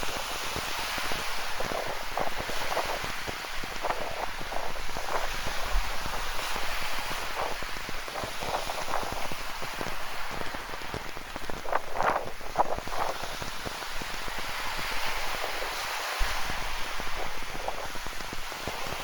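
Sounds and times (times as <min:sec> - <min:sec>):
close rain drops: 0:00.0 - 0:19.0
steady rain falling: 0:00.0 - 0:19.0.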